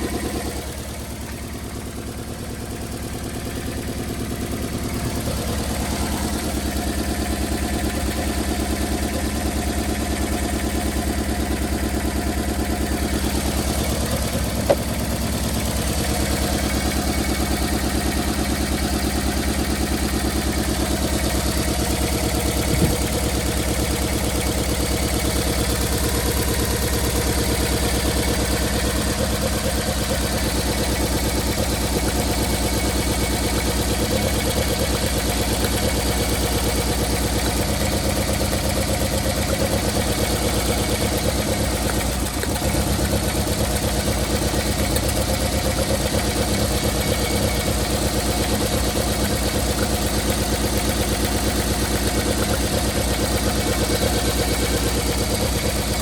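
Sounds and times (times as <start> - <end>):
engine idling with misfire: 0.0 - 56.0.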